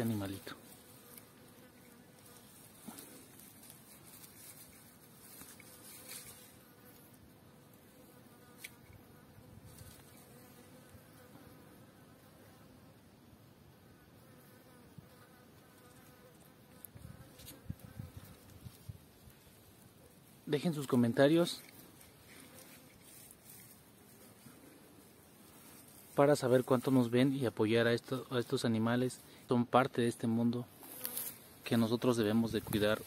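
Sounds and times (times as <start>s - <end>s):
flying insect buzzing: 0.0s - 13.1s, 13.8s - 27.3s, 30.6s - 33.0s.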